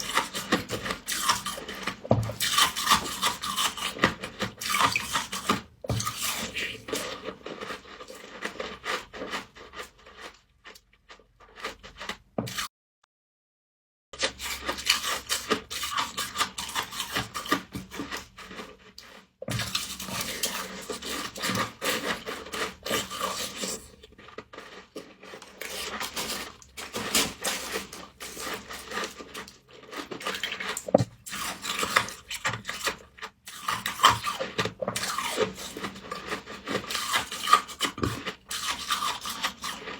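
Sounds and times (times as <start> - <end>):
frost being scraped: 0.0 - 12.7, 14.2 - 39.9.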